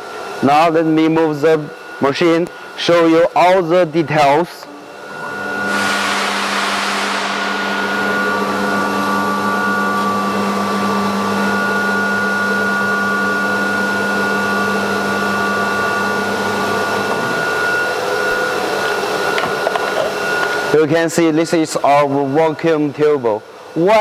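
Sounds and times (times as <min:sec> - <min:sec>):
machinery airy rush and hum: 0:00.0 - 0:24.0
machine whine tones: 0:02.8 - 0:24.0.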